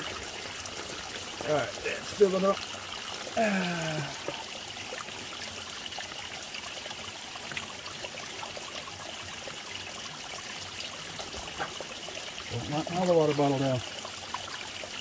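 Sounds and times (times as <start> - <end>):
water trickling into plastic bottle: 0.0 - 15.0.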